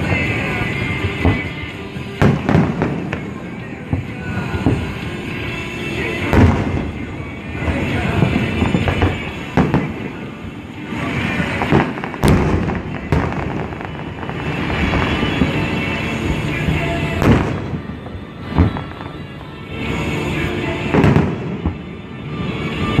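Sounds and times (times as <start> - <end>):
fireworks booms: 0.0 - 22.0
fireworks crackling and popping: 0.0 - 23.0.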